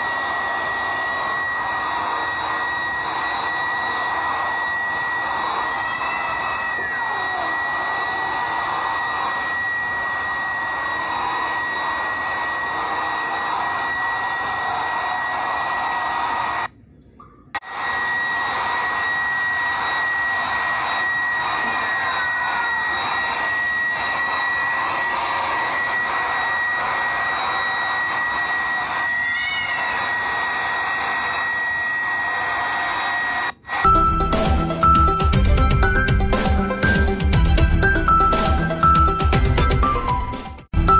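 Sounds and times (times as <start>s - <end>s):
hair dryer running: 0.0s - 16.8s, 17.6s - 34.2s.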